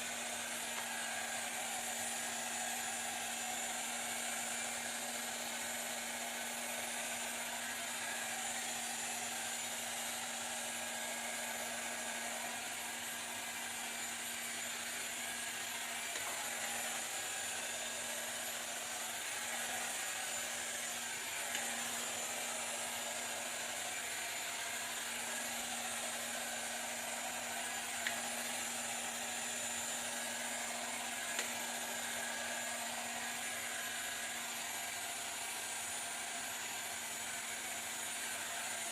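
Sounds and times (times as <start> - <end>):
hair dryer blowing air: 0.0 - 38.9.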